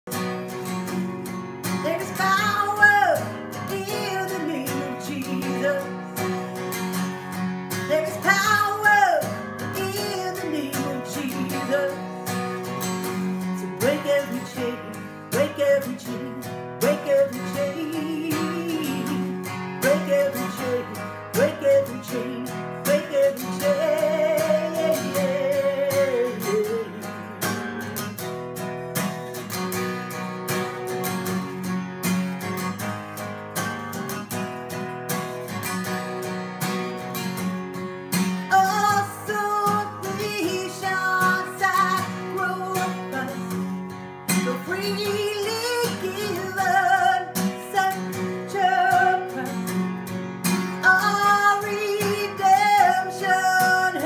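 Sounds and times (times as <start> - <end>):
woman singing: 0.1 - 7.1, 7.7 - 28.1, 38.1 - 54.0
acoustic guitar strumming: 0.1 - 54.0.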